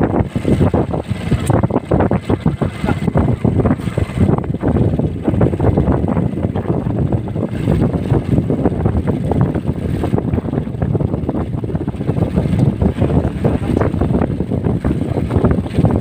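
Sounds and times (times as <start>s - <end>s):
strong wind buffeting microphone: 0.0s - 16.0s
waves washing around boat: 0.0s - 16.0s.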